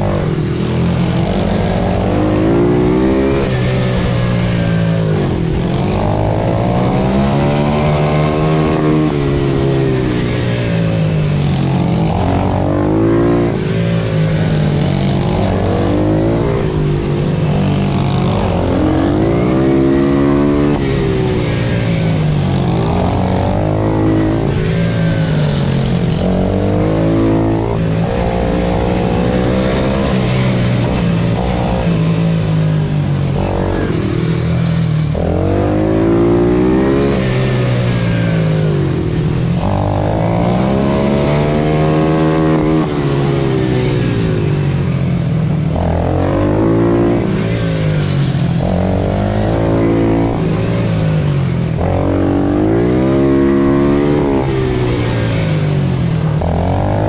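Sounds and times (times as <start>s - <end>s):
low wind rush: 0.0s - 57.0s
motorbike engine revving: 0.0s - 57.0s.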